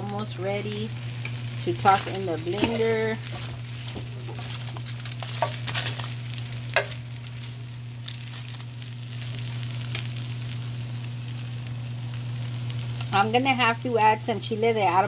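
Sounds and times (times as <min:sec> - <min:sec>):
steady low hum: 0:00.0 - 0:15.0
vegetables sizzling: 0:00.0 - 0:15.0.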